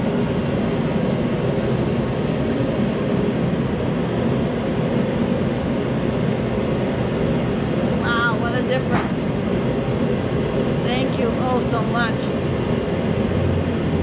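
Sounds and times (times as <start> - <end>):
forced-air heater blowing: 0.0 - 14.0.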